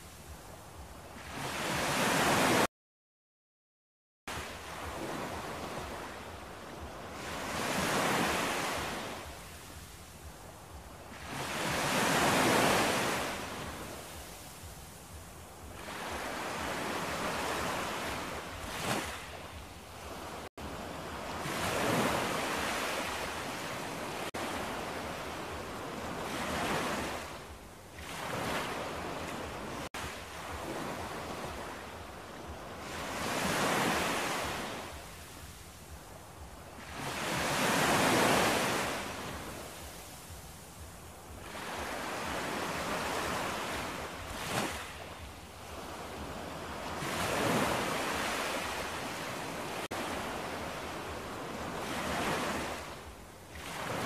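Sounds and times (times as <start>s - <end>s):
small waves breaking on sand: 0.0s - 2.7s, 4.3s - 54.0s.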